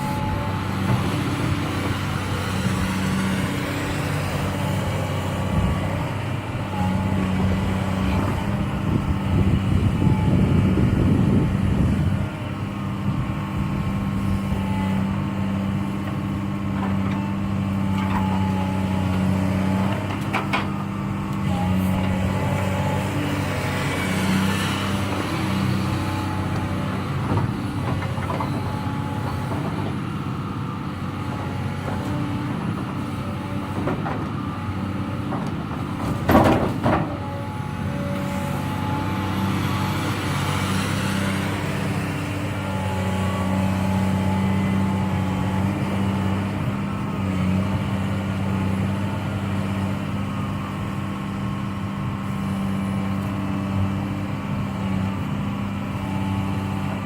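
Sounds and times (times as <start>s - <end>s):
diesel excavator engine: 0.0s - 57.0s.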